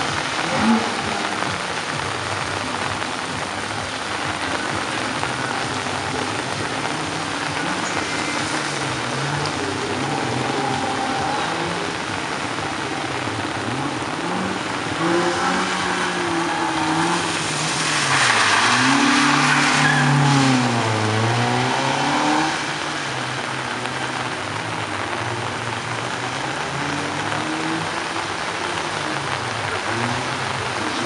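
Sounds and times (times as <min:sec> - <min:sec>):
car engine revving: 0:00.0 - 0:31.0
rain hiss: 0:00.0 - 0:31.0
tyres hissing on wet surface: 0:00.0 - 0:31.0.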